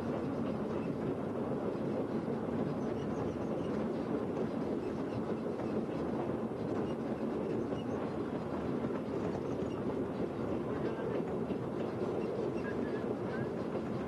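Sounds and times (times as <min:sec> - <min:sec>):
rail vehicle running on track: 0:00.0 - 0:14.0.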